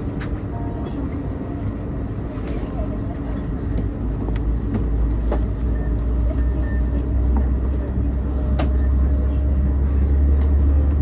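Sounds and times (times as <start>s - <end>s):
vehicle rumble from inside cabin: 0.0s - 11.0s.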